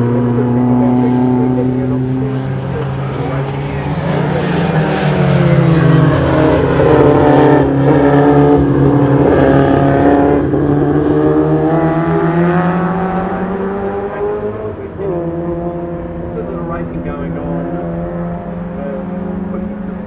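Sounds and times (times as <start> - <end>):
car engine running hard: 0.0 - 20.0.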